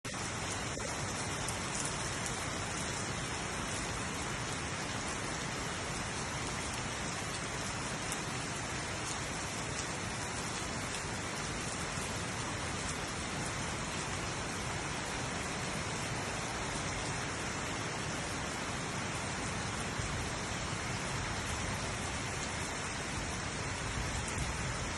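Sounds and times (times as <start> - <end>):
steady rainfall: 0.0 - 24.9.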